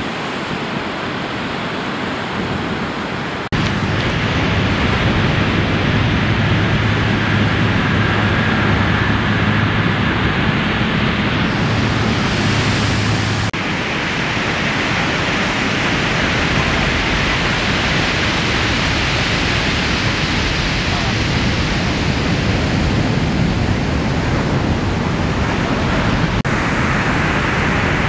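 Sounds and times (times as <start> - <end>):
ocean surf breaking: 0.0 - 28.0
wind noise: 0.0 - 28.0.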